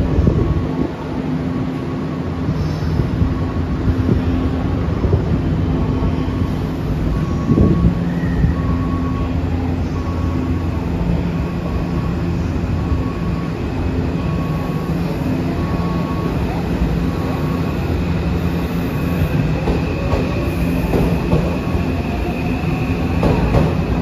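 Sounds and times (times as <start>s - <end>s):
train rumble with low hum: 0.0s - 24.0s.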